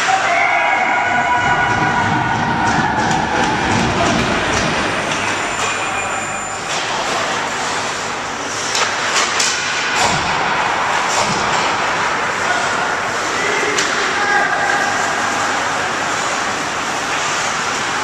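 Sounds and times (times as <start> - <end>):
hockey sticks and puck clacking: 0.0 - 5.9, 6.6 - 15.1.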